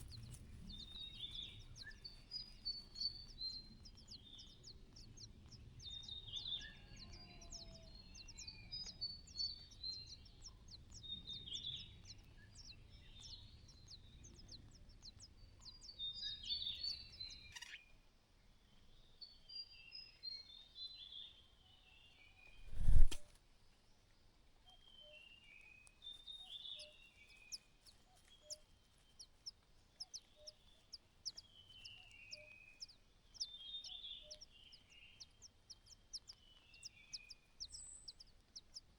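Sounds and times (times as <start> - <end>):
birds chirping: 0.0 - 18.0, 18.6 - 23.2, 24.8 - 38.9.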